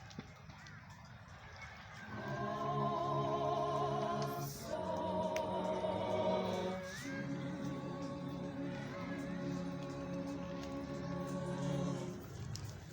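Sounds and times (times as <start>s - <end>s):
choir singing a hymn: 2.0s - 12.9s.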